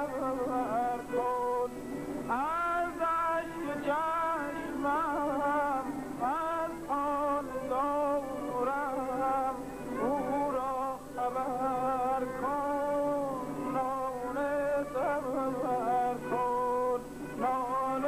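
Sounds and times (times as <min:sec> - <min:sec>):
man singing slow song: 0:00.0 - 0:18.0.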